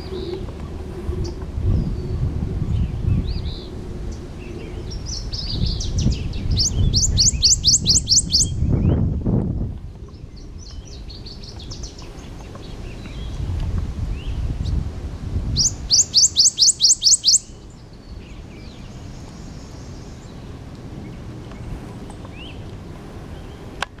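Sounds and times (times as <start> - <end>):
warbler singing: 0.0 - 0.5, 1.2 - 9.1, 10.0 - 14.8, 15.5 - 22.7, 23.3 - 23.8.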